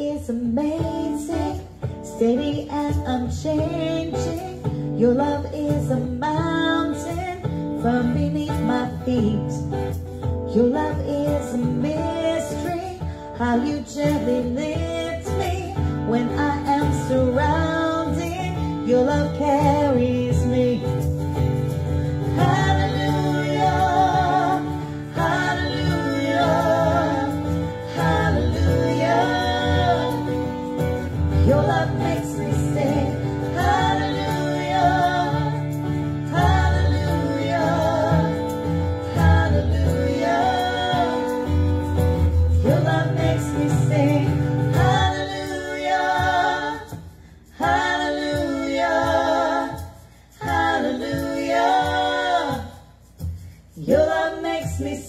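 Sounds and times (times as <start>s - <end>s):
instrumental backing: 0.6s - 54.3s
people singing worship song: 9.8s - 55.0s.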